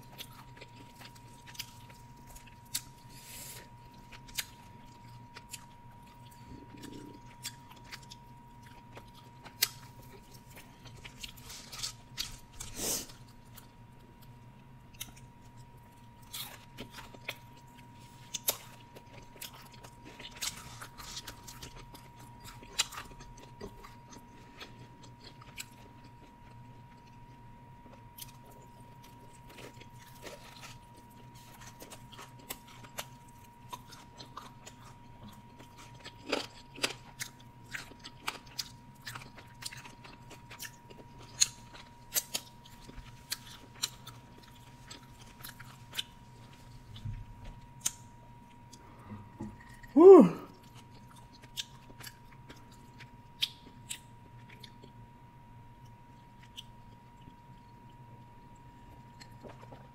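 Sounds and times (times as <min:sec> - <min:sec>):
person chewing: 0:00.0 - 0:55.0, 0:55.7 - 0:59.9.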